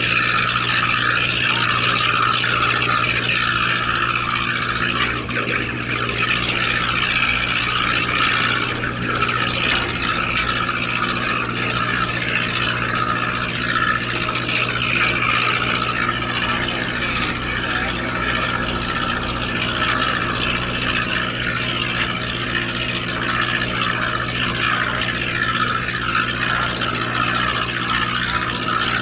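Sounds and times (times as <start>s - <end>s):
boat engine humming: 0.0s - 29.0s.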